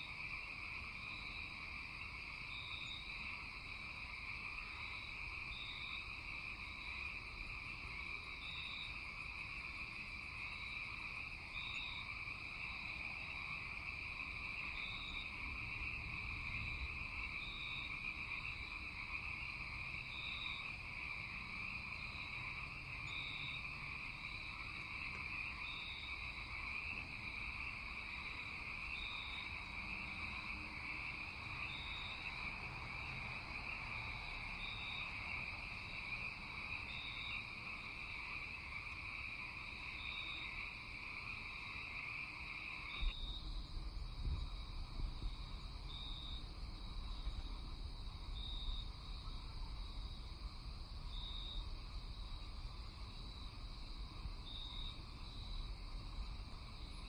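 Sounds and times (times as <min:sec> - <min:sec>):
insects buzzing drone: 0:00.0 - 0:57.0.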